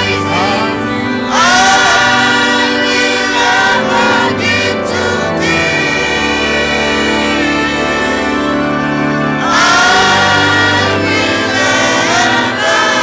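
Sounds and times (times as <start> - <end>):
choir singing gospel music: 0.0 - 13.0
instrumental accompaniment with bass: 0.0 - 13.0.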